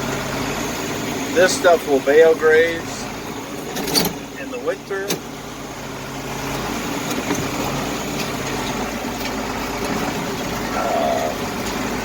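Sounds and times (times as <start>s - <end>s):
farm machine engine running: 0.0s - 12.0s.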